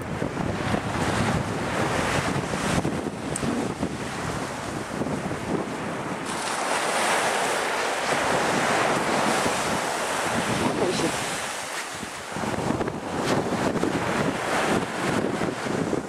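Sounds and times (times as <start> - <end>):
surf washing on sandy beach: 0.0 - 16.0
wind rushing over microphone: 0.0 - 16.0.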